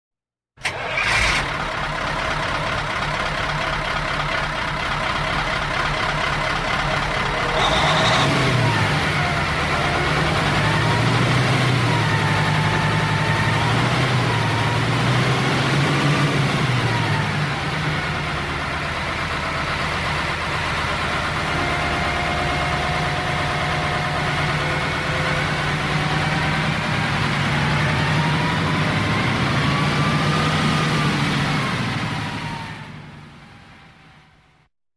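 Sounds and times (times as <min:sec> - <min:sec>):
diesel truck engine: 0:00.6 - 0:34.6.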